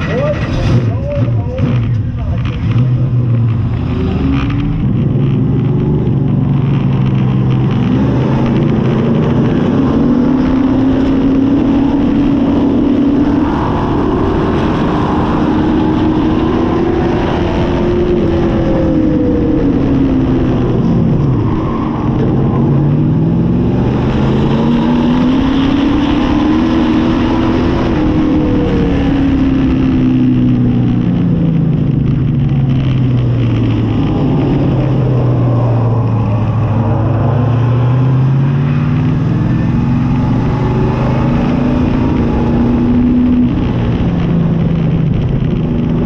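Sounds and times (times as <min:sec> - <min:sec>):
race car engine: 0:00.0 - 0:46.0.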